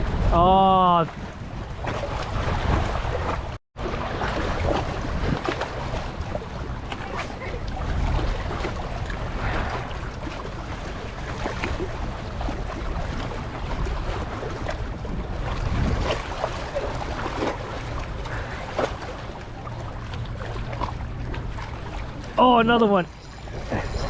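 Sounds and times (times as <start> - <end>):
wind buffeting microphone: 0.0 - 22.4
water lapping against rocks: 0.0 - 24.0.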